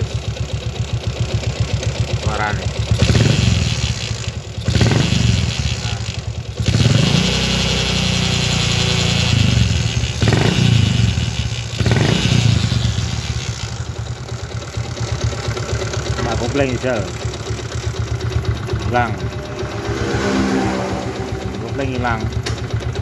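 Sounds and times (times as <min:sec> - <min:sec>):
motorcycle engine revving: 0:00.0 - 0:23.0
grinding transmission noise: 0:02.0 - 0:23.0.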